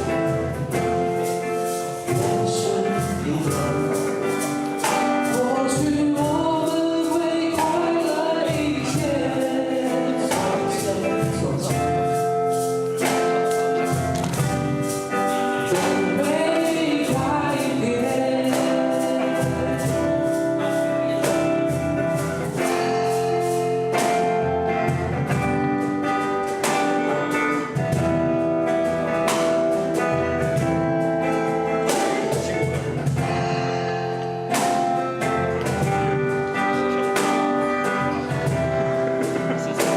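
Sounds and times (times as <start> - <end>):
percussion beat: 0.0 - 39.9
person singing: 0.0 - 39.9
strummed acoustic guitars: 0.0 - 39.9.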